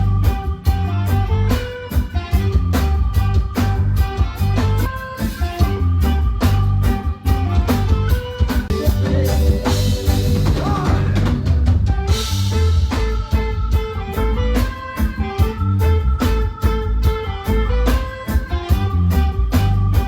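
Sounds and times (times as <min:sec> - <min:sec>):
drum kit: 0:00.0 - 0:20.0
electric guitar: 0:00.0 - 0:20.0
heavy bass: 0:00.0 - 0:20.0.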